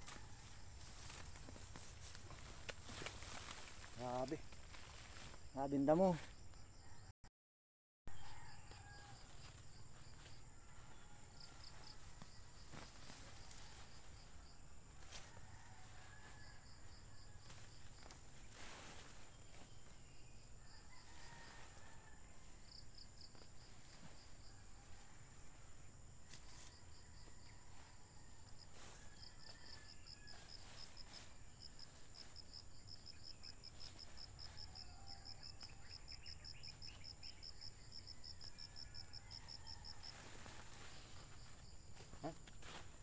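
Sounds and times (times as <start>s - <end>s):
distant rooster crowing: 0.0s - 3.8s, 8.1s - 43.0s.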